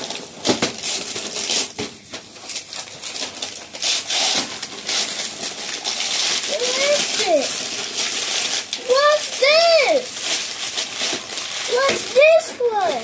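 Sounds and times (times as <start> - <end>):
wrapping paper tearing and crumpling: 0.0 - 13.0.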